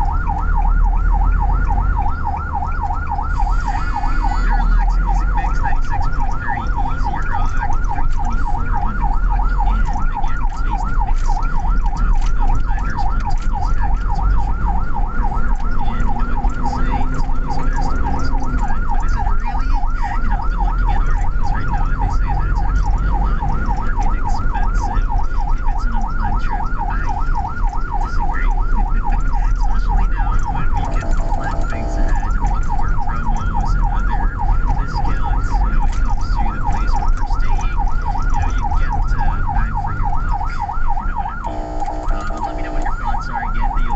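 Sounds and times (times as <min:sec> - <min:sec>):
ambulance siren yelping: 0:00.0 - 0:43.9
engine and road rumble: 0:00.0 - 0:43.9.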